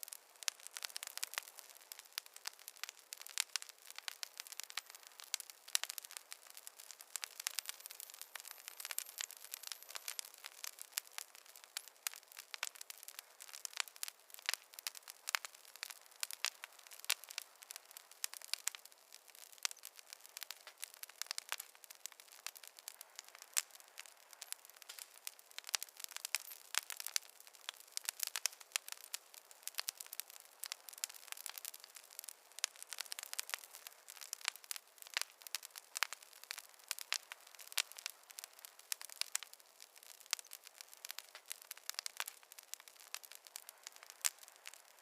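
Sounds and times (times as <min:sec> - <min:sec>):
fire crackling: 0:00.0 - 0:45.0.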